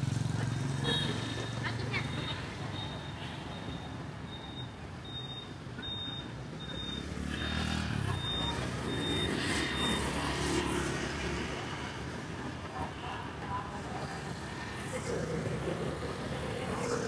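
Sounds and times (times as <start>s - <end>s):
street traffic of motorbikes and cars: 0.0s - 17.0s.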